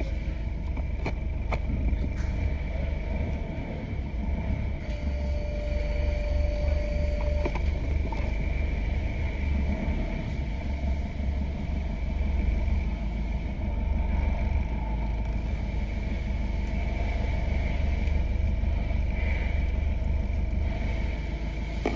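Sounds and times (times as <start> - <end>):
diesel engine idling: 0.0 - 21.9.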